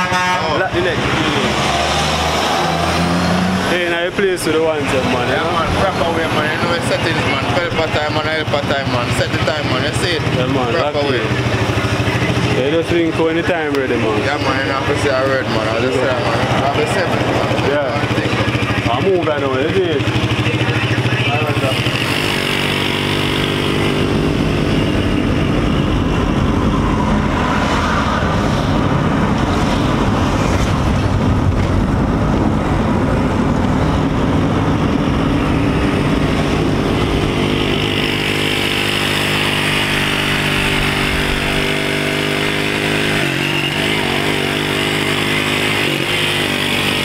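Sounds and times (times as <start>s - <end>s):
road and wind noise: 0.0s - 47.0s
small motorcycle engine running: 3.8s - 27.1s, 32.6s - 47.0s.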